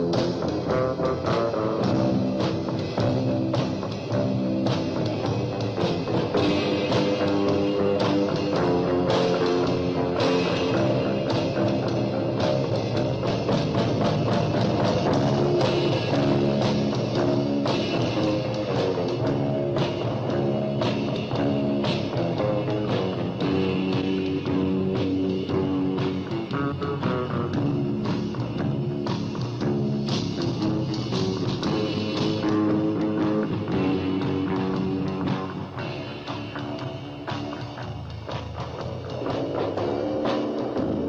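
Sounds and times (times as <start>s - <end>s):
drum kit beat: 0.0s - 41.0s
electric guitar rock music: 0.0s - 41.0s.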